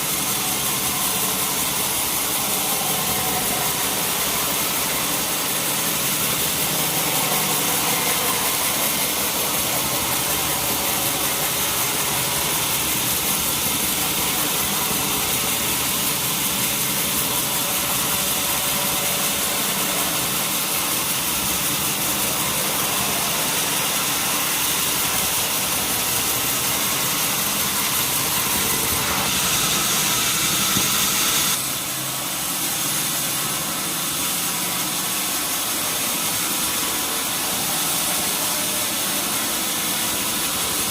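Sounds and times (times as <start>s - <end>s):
sawmill saw running: 0.0s - 40.9s.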